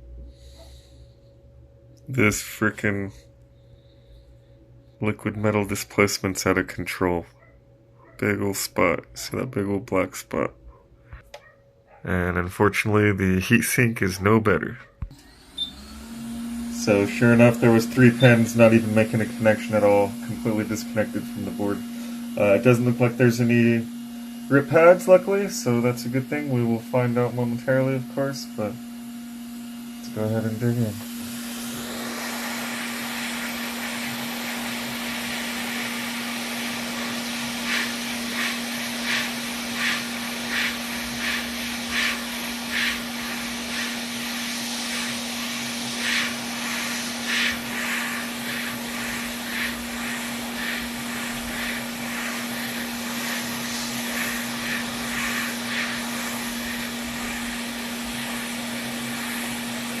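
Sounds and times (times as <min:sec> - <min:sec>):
hot-air rework station blowing: 0:02.0 - 0:07.2, 0:12.9 - 1:00.0.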